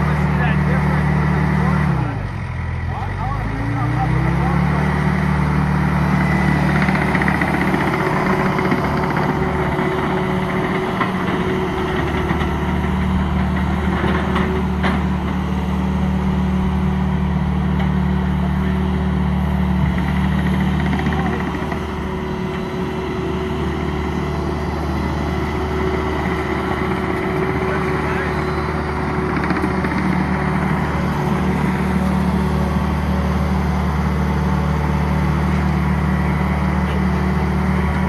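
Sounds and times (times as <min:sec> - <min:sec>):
track loader engine running: 0:00.0 - 0:38.0.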